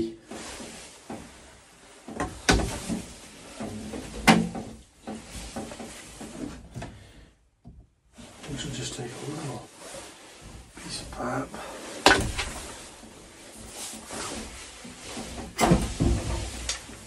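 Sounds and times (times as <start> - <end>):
pipe parts knocking and rustling: 0.2 - 8.6, 10.3 - 17.0.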